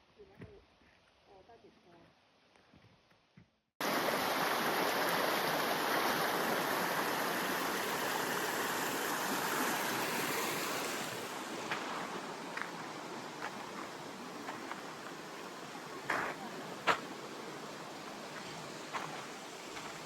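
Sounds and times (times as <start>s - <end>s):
river water rushing: 3.8s - 20.0s.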